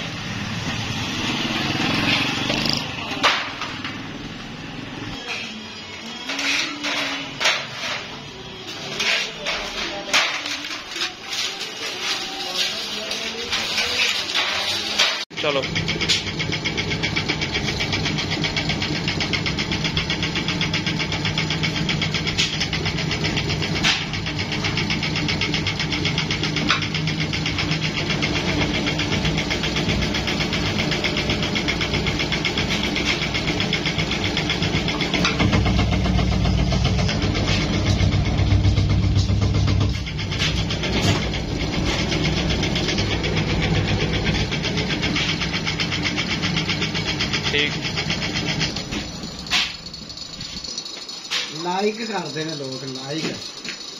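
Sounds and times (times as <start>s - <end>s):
sheet-metal press motor hum: 1.0s - 50.7s.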